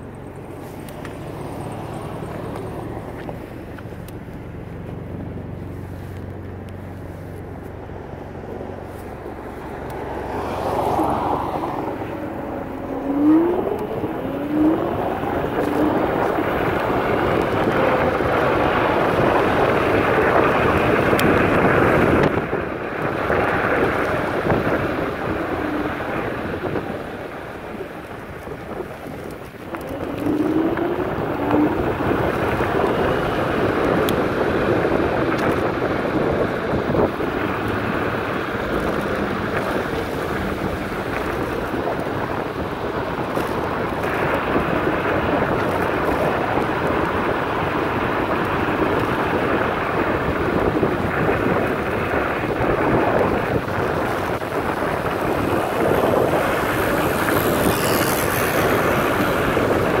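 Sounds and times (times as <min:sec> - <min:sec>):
wind buffeting microphone: 0:00.0 - 1:00.0.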